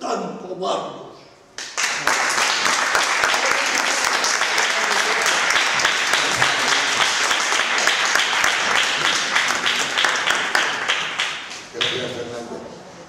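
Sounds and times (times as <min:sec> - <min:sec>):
audience applauding: 0:01.6 - 0:12.4.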